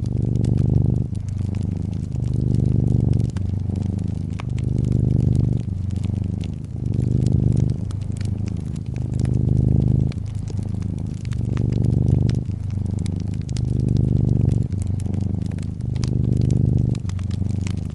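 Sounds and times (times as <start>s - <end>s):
cat purring: 0.0s - 17.9s
wood fire crackling: 0.0s - 17.9s.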